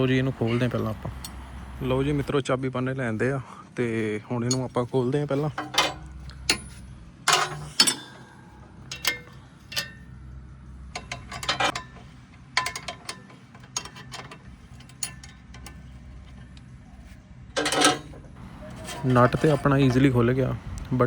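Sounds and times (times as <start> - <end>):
spanners clinking and ratcheting: 0.0 - 2.3, 5.4 - 16.8, 17.5 - 21.0.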